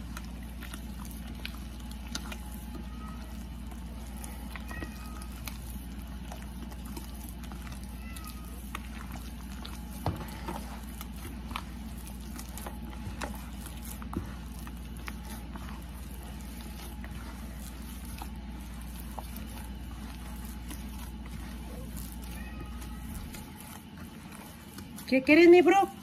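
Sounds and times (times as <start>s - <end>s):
hands kneading wet dough: 0.0s - 26.0s.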